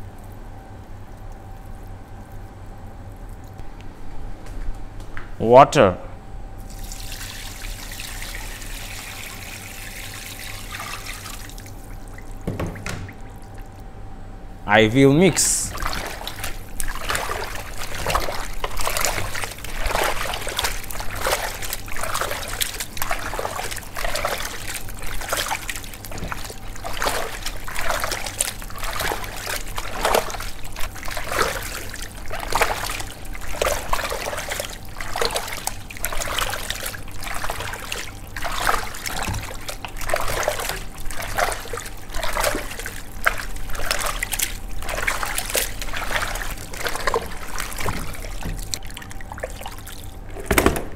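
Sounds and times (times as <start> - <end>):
wet squelching and sloshing: 0.0 - 4.5, 6.6 - 14.0, 15.0 - 50.6.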